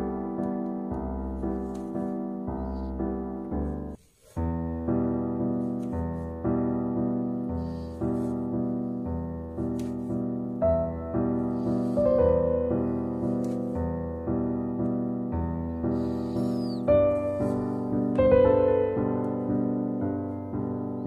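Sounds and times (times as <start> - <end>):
higher piano melody: 0.0 - 21.0
soft piano chords: 0.0 - 21.0.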